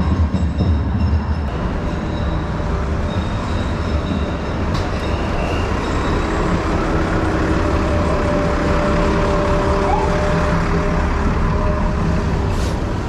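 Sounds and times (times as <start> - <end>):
street traffic engine rumble: 0.0 - 13.0
faint engine hum: 1.5 - 13.0.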